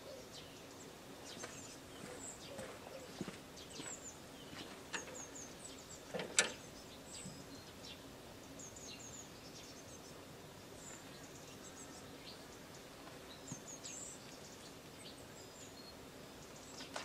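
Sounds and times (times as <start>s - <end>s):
faint outdoor background noise: 0.0s - 17.0s
small birds chirping: 0.0s - 17.0s.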